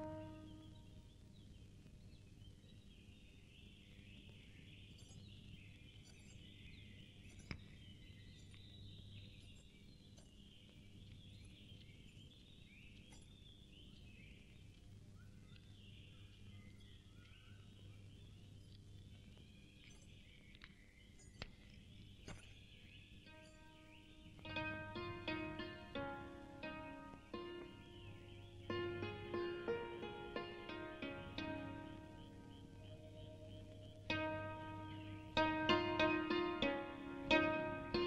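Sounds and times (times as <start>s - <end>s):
low steady hum: 0.0s - 12.8s, 13.7s - 38.0s
birds chirping: 0.0s - 38.0s.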